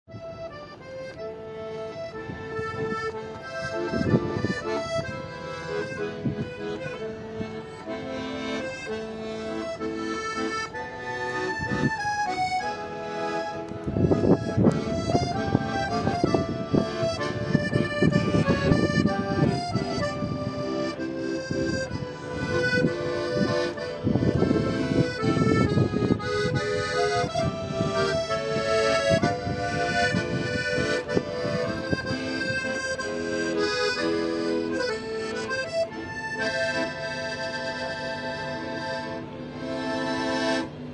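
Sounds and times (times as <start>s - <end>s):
accordion playing a tune: 0.1s - 40.9s.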